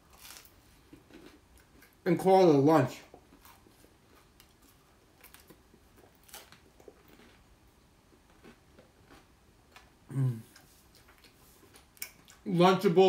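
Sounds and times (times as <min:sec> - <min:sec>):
faint chewing: 0:00.0 - 0:02.0, 0:03.0 - 0:12.5.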